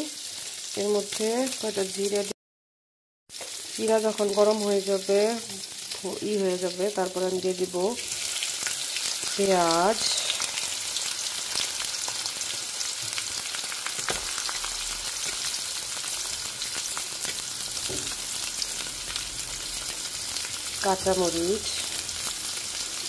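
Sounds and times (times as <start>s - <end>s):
onions sizzling with crackles: 0.0s - 2.4s, 3.3s - 23.0s.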